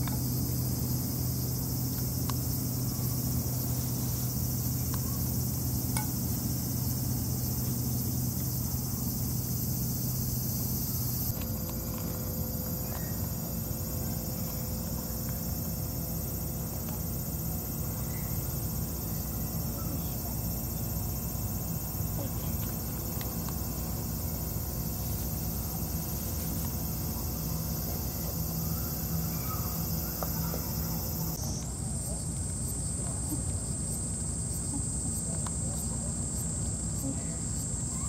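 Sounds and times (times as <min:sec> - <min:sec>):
cicada chorus drone: 0:00.0 - 0:38.0
constant low rumble: 0:00.0 - 0:38.0.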